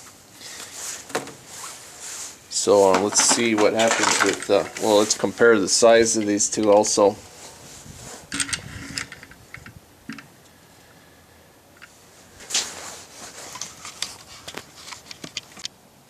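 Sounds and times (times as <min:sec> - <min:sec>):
rustle: 0:00.0 - 0:16.0.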